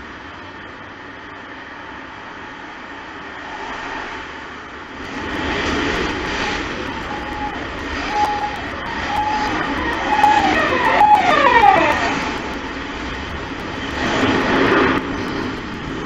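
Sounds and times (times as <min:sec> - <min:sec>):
traffic rumble in tunnel: 0:00.0 - 0:16.0.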